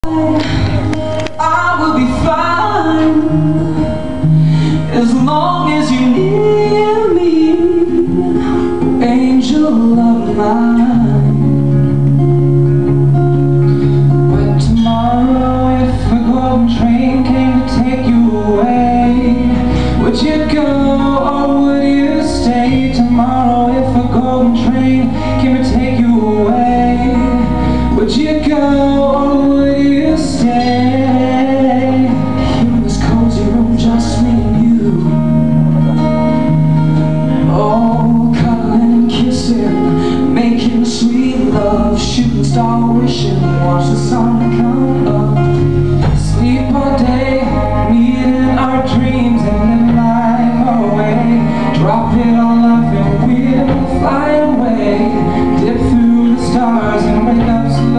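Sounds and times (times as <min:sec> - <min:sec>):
acoustic guitar: 0:00.0 - 0:57.9
two men singing: 0:04.7 - 0:11.7, 0:14.4 - 0:35.6, 0:37.3 - 0:57.9.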